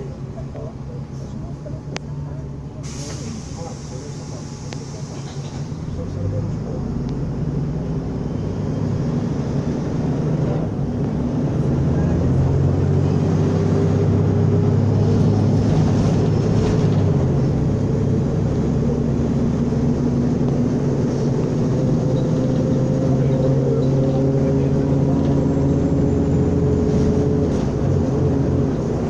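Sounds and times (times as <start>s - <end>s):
bus engine running: 0.0s - 29.0s.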